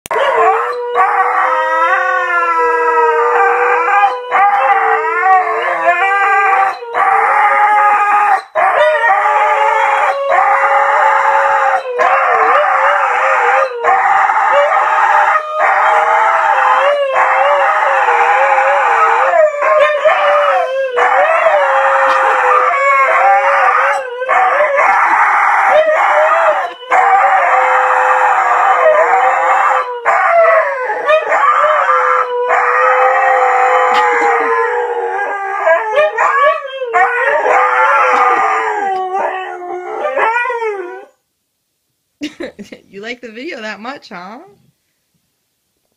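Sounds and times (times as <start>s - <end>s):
dogs howling: 0.1s - 41.2s.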